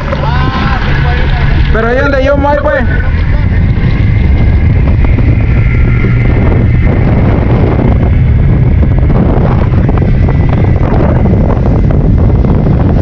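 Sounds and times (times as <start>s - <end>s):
outboard motor drone: 0.0s - 13.0s
water rushing along hull: 0.0s - 13.0s
wind buffeting microphone: 0.0s - 13.0s.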